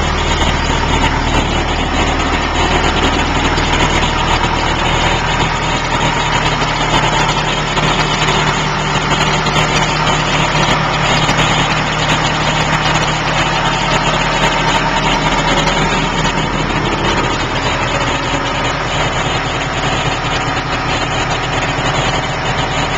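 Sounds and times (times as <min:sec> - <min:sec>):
tractor diesel engine idling: 0:00.0 - 0:22.9.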